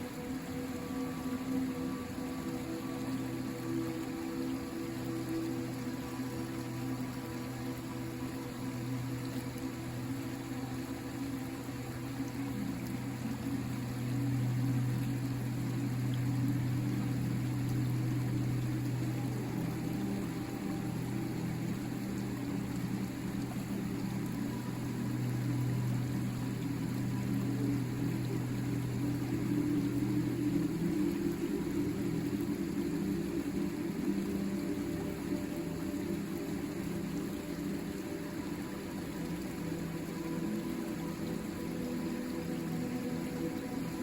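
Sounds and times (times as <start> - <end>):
river water flowing: 0.0 - 44.0.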